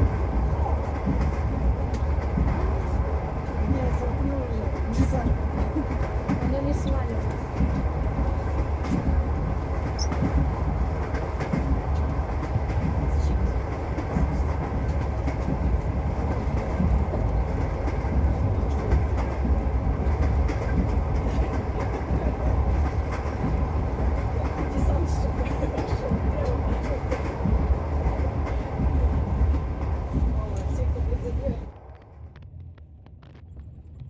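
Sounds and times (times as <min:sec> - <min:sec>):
train low rumble: 0:00.0 - 0:34.0
wheels clicking on rails: 0:00.0 - 0:34.0.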